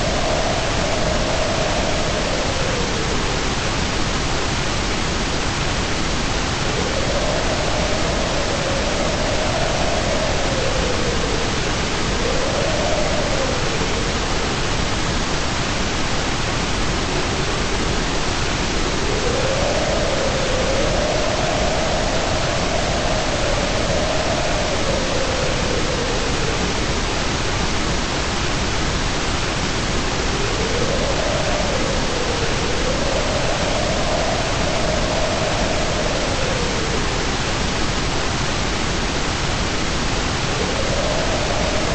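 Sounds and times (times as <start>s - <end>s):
white noise hissing: 0.0s - 41.9s.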